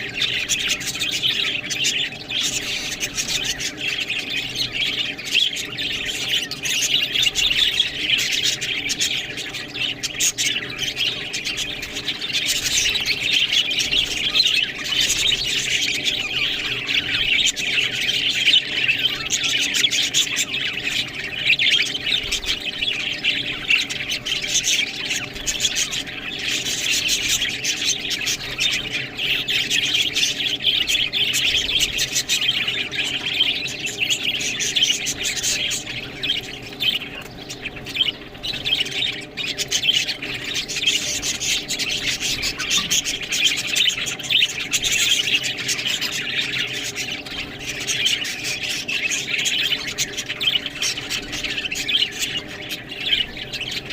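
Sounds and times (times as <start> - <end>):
budgerigars chattering: 0.0 - 53.9
faint steady hum: 0.0 - 53.9.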